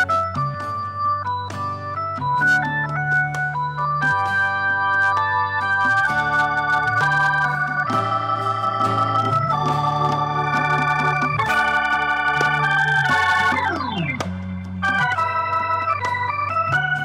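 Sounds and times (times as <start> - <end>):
electronic organ chords: 0.0 - 17.0
keyboard falling glissando: 0.0 - 17.0.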